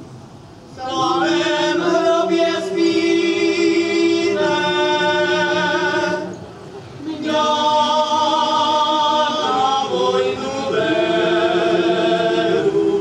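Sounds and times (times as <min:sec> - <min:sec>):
men's choir singing: 0:00.8 - 0:06.4, 0:07.0 - 0:13.0.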